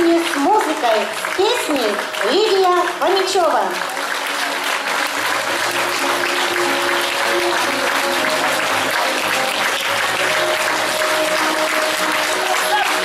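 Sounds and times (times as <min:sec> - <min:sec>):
audience applauding: 0:00.0 - 0:13.0
instrumental music: 0:01.9 - 0:13.0.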